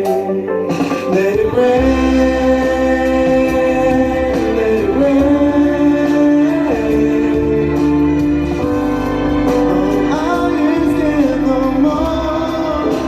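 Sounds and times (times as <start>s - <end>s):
instrumental backing: 0.0s - 13.0s
wordless sustained singing: 0.0s - 13.0s.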